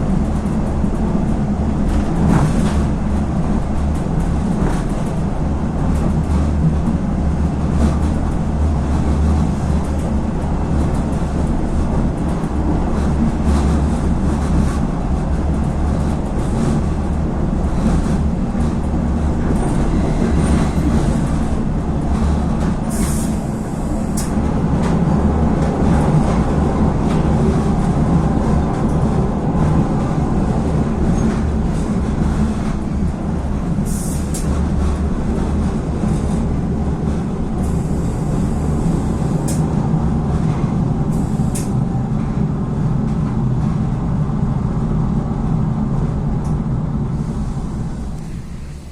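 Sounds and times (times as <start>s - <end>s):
railcar low drone: 0.0s - 48.9s.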